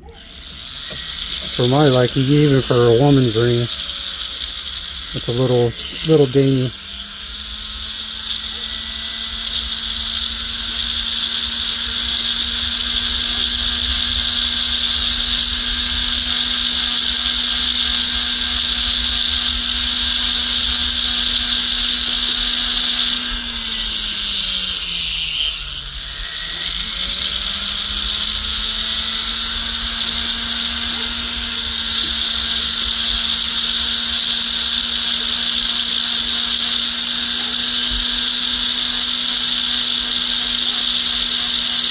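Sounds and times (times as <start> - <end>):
polishing wheel hissing on metal: 0.0 - 41.9
rotary tool motor whine: 0.0 - 41.9.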